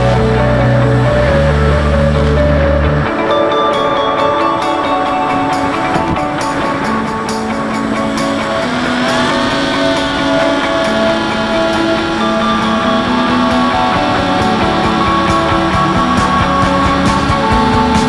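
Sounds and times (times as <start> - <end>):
rock music: 0.0 - 18.0.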